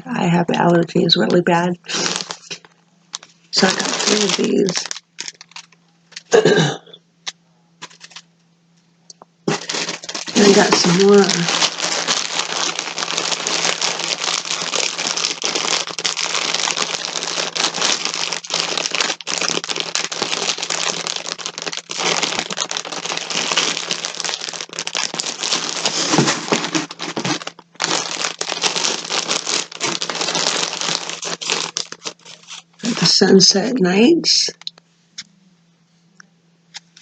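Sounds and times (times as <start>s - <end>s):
packaging crinkling and rustling: 1.2s - 6.6s, 7.2s - 8.3s, 9.4s - 33.2s.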